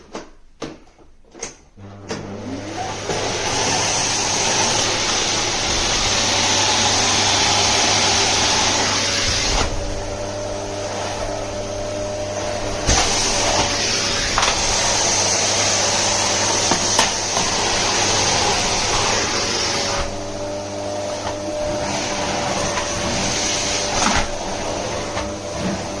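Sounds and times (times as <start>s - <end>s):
vacuum cleaner running: 1.8s - 26.0s.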